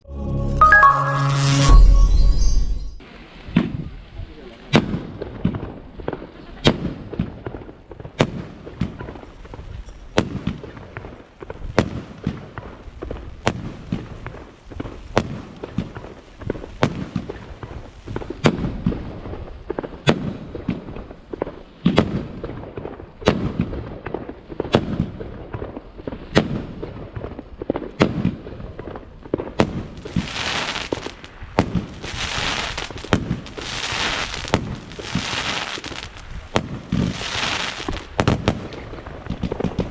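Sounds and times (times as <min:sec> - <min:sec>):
firework launch pops and bursts: 0:04.6 - 0:39.9
firework crackling: 0:04.7 - 0:39.9.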